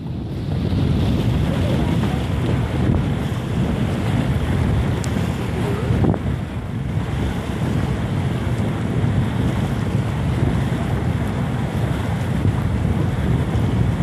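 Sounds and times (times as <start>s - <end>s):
waves washing: 0.0s - 14.0s
wind buffeting microphone: 0.0s - 14.0s.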